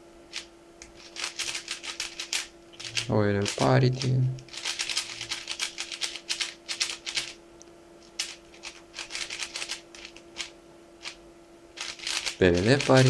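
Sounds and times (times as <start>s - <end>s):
puzzle cube clicking turns: 0.4s - 7.3s, 8.2s - 11.2s, 11.8s - 13.0s.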